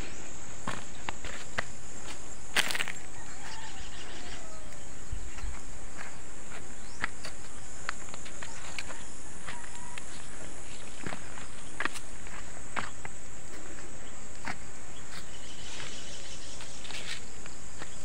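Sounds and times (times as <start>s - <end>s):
footsteps on stony soil: 0.0s - 18.0s
high-pitched insect drone: 0.0s - 18.0s.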